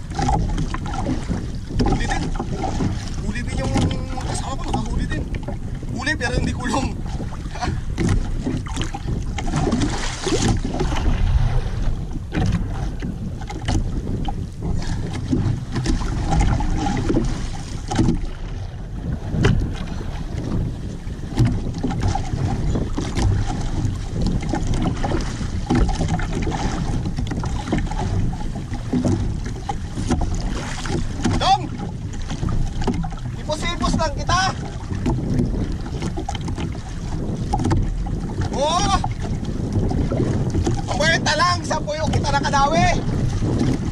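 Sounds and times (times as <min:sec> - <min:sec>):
water slapping boat hull: 0:00.0 - 0:43.9
wind buffeting microphone: 0:00.0 - 0:43.9.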